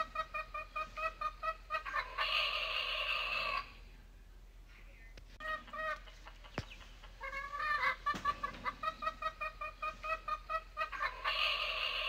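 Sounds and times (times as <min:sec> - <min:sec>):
rooster clucking: 0:00.0 - 0:03.8, 0:05.4 - 0:12.0.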